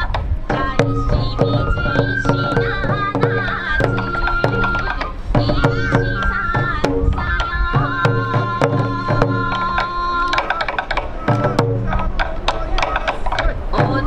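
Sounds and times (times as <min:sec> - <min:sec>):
bamboo flute melody: 0:00.0 - 0:14.0
taiko drum strikes: 0:00.1 - 0:14.0.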